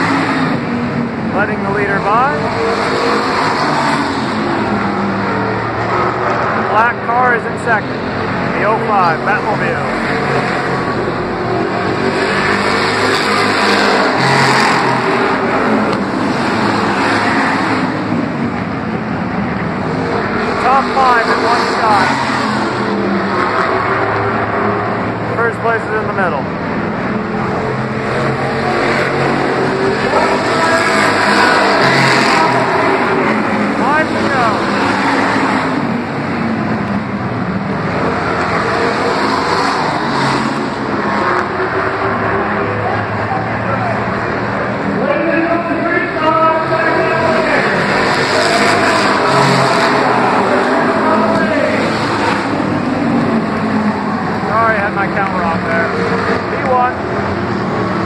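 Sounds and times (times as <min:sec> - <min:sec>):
race car engines: 0:00.0 - 0:58.0.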